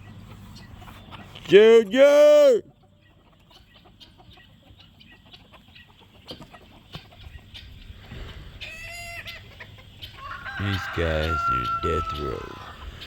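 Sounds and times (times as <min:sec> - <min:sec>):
chickens clucking: 0:00.0 - 0:02.0, 0:02.6 - 0:13.0.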